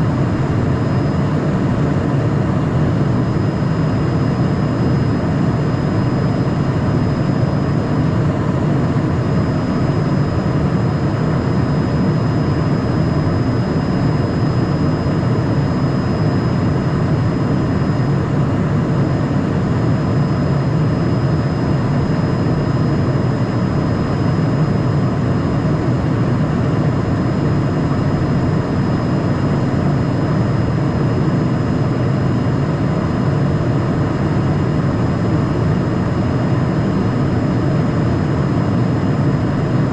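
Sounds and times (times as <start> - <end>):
faint high whine: 0.0 - 39.9
jet engine and airflow rush: 0.0 - 39.9.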